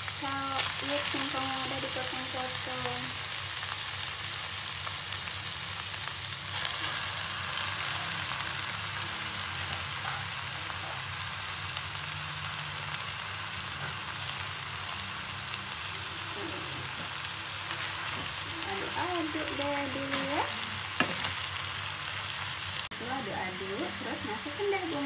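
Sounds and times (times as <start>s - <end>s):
leaves sizzling in oil: 0.0s - 25.0s.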